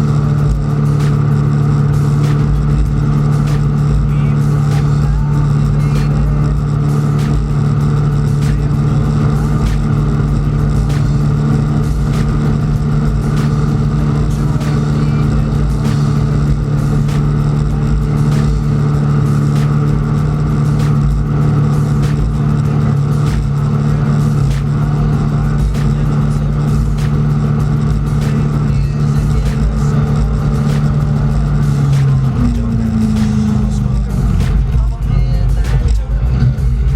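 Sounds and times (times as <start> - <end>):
boat engine droning: 0.0 - 36.9.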